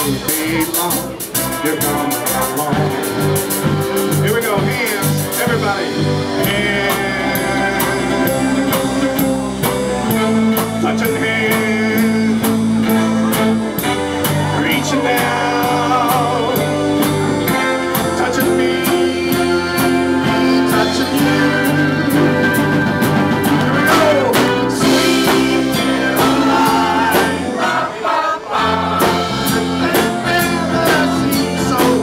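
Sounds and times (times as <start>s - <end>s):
electric keyboard: 0.0s - 27.8s
electric guitar: 0.0s - 27.9s, 28.5s - 32.0s
bass guitar: 0.0s - 32.0s
drums keeping a steady beat: 0.0s - 32.0s
person singing: 0.0s - 32.0s.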